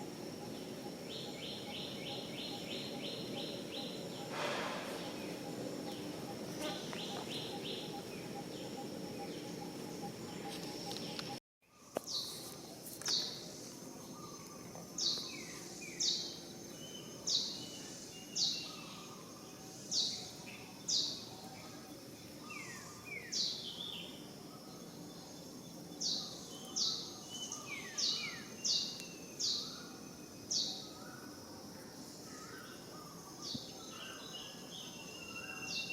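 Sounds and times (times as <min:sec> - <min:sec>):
outdoor background noise: 0:00.0 - 0:35.9.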